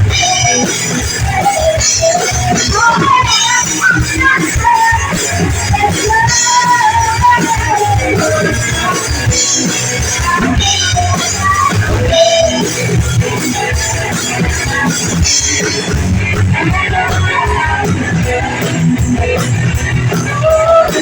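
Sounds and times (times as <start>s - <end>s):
amplified guitar: 0.0s - 21.0s
drums: 0.0s - 21.0s
person singing: 0.2s - 15.9s, 16.6s - 18.9s, 20.1s - 21.0s.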